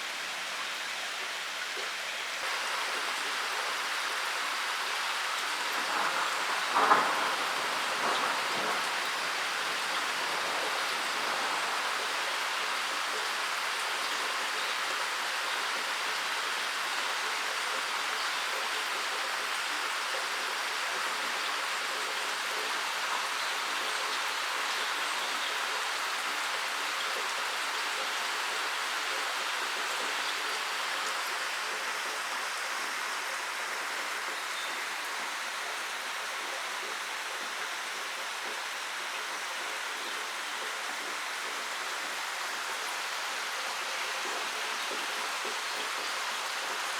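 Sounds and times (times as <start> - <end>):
rain falling in forest: 0.0 - 46.9.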